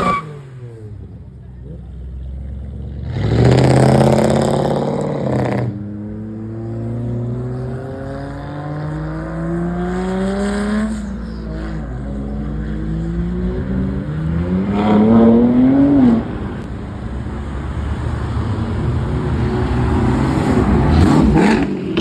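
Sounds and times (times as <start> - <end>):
car accelerating away: 0.0 - 22.0
car engine revving: 0.0 - 22.0.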